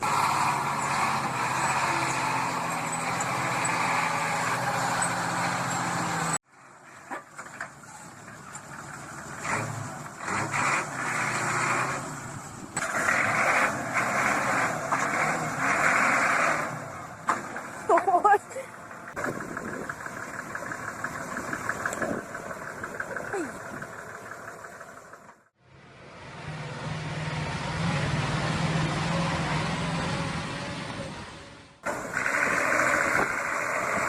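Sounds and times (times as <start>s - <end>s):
heavy vehicle engine hum: 0.0s - 34.0s.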